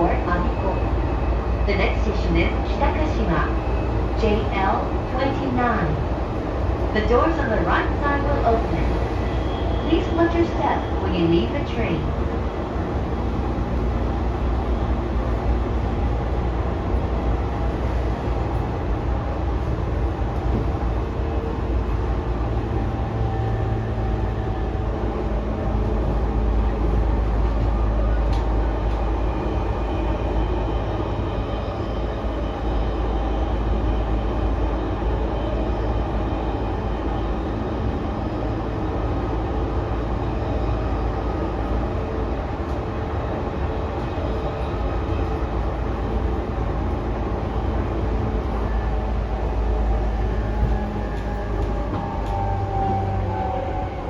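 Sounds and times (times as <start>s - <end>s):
train wheels and motors rumbling: 0.0s - 54.0s.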